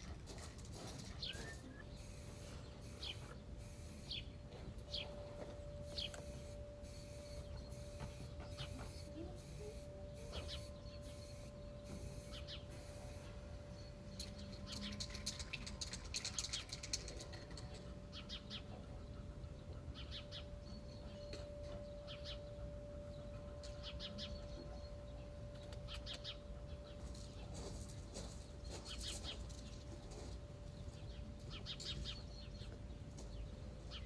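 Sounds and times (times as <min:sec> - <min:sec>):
faint steady hum: 0:00.0 - 0:34.0
small birds chirping: 0:01.0 - 0:34.0.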